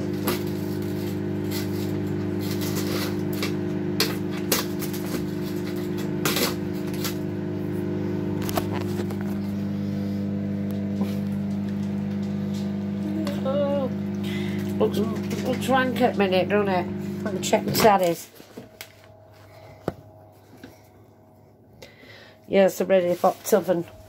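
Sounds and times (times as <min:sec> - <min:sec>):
kitchen appliance humming: 0:00.0 - 0:24.0.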